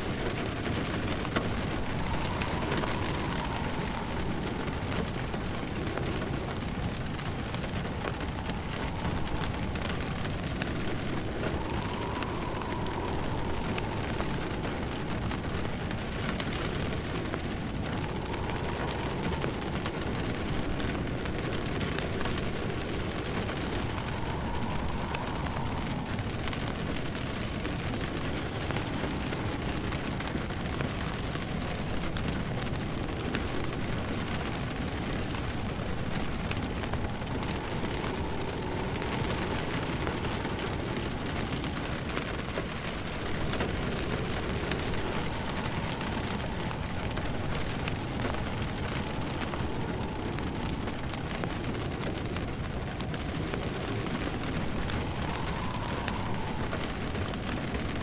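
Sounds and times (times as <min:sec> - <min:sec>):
faint whistling tone: 0:00.0 - 0:58.0
rain pattering: 0:00.0 - 0:58.0
wood fire crackling: 0:00.0 - 0:58.0.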